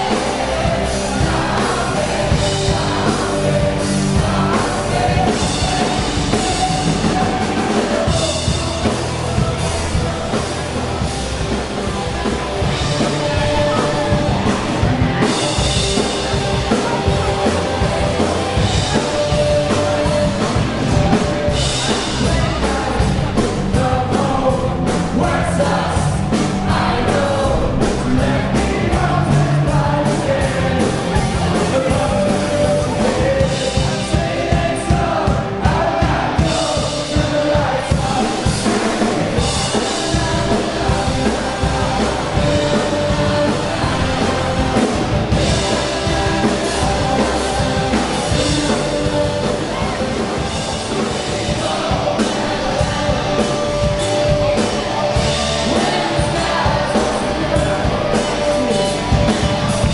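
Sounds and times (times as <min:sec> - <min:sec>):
lead singer singing: 0:00.0 - 0:59.9
live rock band playing: 0:00.0 - 0:59.9.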